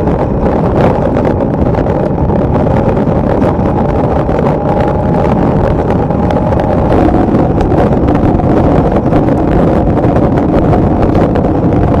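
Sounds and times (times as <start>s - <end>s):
road noise: 0.0s - 12.0s
wind and rain on microphone: 0.0s - 12.0s.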